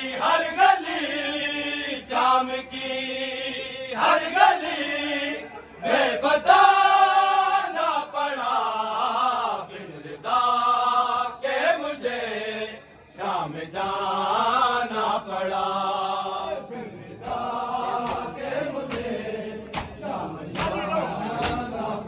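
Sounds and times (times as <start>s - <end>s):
men chanting in unison: 0.0s - 22.0s.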